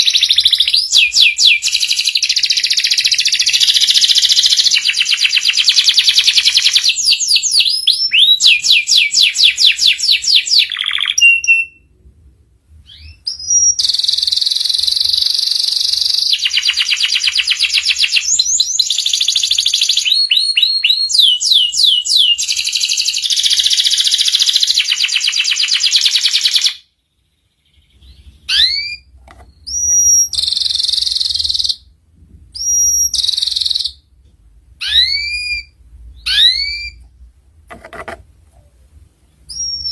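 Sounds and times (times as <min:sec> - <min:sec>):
canary singing trills: 0:00.0 - 0:11.9, 0:12.8 - 0:31.9, 0:32.6 - 0:34.1, 0:34.8 - 0:37.3, 0:39.3 - 0:39.9.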